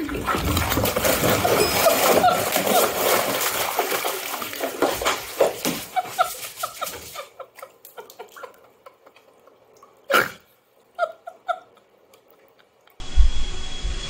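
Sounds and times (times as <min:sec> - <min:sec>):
water splashing in bathtub: 0:00.0 - 0:13.0.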